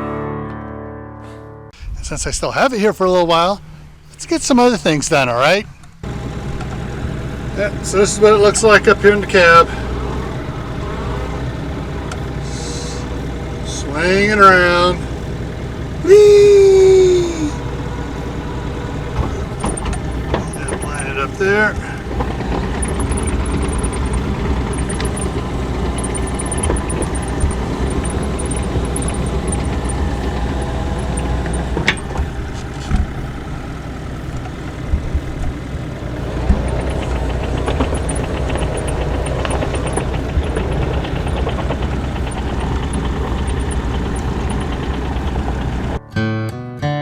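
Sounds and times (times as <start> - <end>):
diesel engine running: 1.8 - 46.1.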